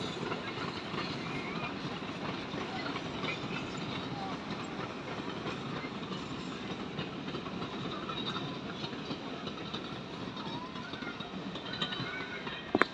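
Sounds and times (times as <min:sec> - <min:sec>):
train rumbling and rattling: 0:00.0 - 0:12.9.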